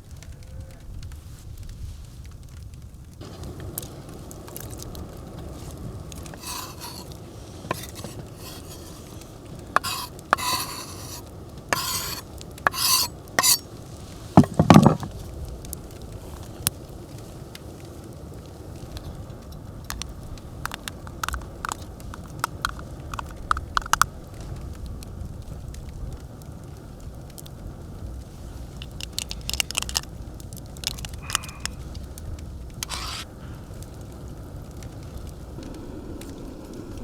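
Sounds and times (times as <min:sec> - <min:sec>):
campfire crackling and popping: 0:00.0 - 0:14.4, 0:15.1 - 0:37.0.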